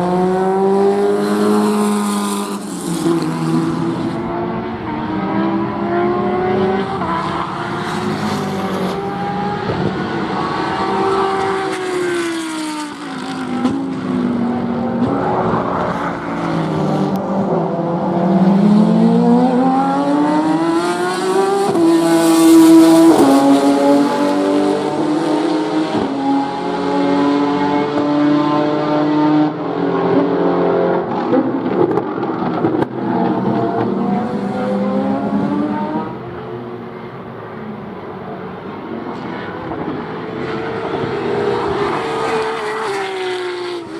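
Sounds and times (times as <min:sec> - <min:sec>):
engine revving up steeply: 0:00.0 - 0:36.5
racing car engines: 0:00.0 - 0:43.9.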